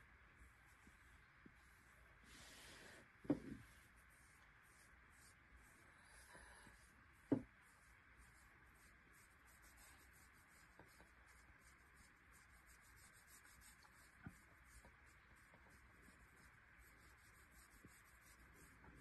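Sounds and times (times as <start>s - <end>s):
fingers rubbing dog fur: 3.5s - 19.0s.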